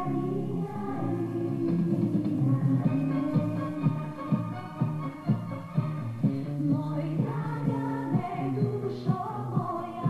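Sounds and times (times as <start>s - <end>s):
woman singing a pop song: 0.0s - 4.8s, 6.4s - 10.0s.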